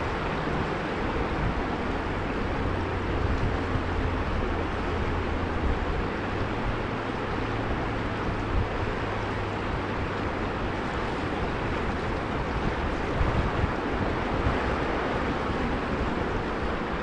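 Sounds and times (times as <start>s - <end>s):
river water rushing over stones: 0.0s - 17.0s
wind buffeting microphone: 0.0s - 17.0s.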